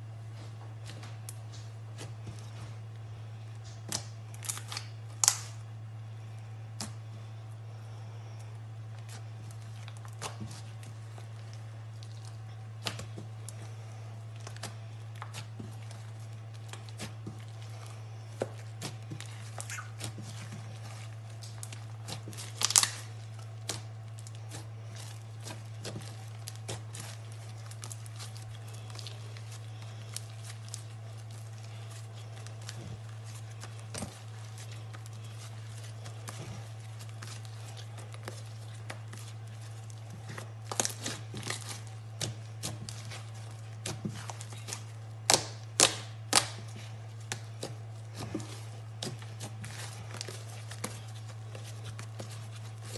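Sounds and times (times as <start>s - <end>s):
steady low hum: 0.0s - 52.9s
slime crackling and popping: 3.6s - 5.6s, 9.0s - 52.9s.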